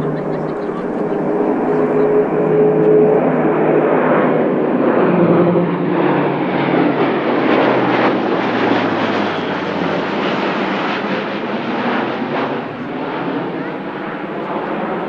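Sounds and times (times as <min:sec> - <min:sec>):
propeller aircraft droning overhead: 0:00.0 - 0:15.0.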